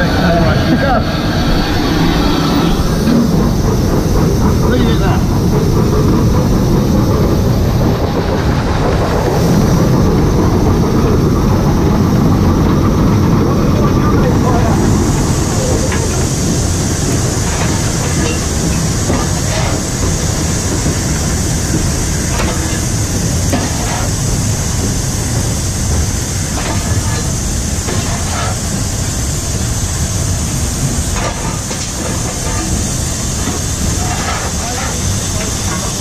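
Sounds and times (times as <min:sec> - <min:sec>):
steam locomotive rumble and hiss: 0:00.0 - 0:36.0
wheels clicking over rail joints: 0:03.0 - 0:36.0.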